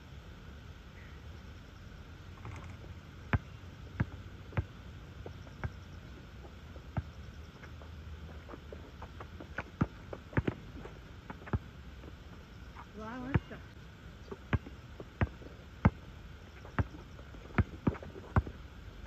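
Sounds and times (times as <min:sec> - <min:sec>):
basketball bouncing on asphalt: 0:02.4 - 0:13.6, 0:14.3 - 0:18.6.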